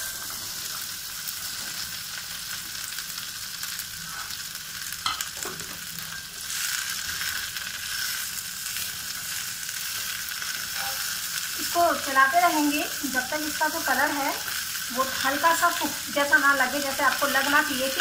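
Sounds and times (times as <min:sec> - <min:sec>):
okra sizzling in hot oil: 0:00.0 - 0:18.0.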